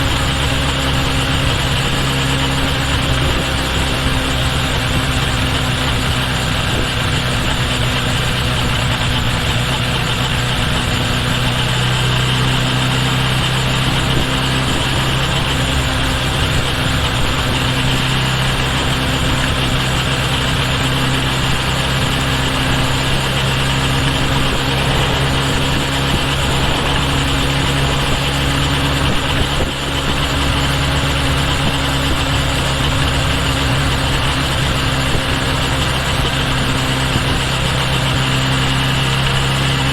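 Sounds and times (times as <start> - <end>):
motorcycle engine humming: 0.0 - 39.9
road and wind noise: 0.0 - 39.9.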